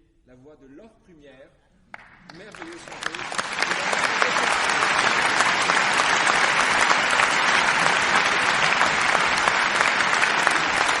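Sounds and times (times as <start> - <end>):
crowd applauding: 1.9 - 11.0.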